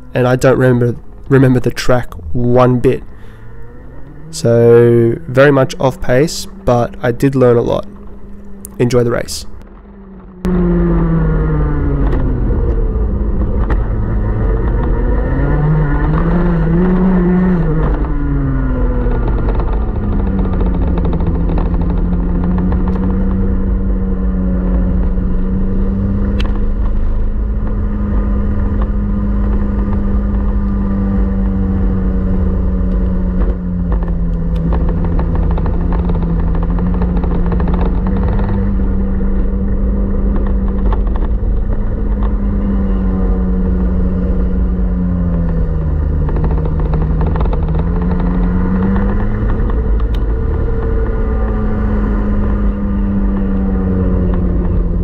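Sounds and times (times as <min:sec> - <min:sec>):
two-stroke kart engine racing: 0:00.0 - 0:55.0.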